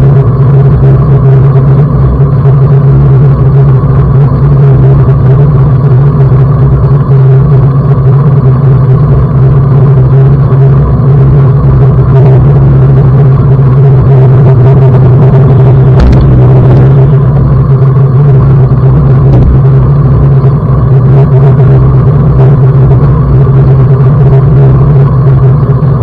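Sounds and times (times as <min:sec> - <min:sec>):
low hum: 0:00.0 - 0:26.0
wind rumble on microphone: 0:00.0 - 0:26.0.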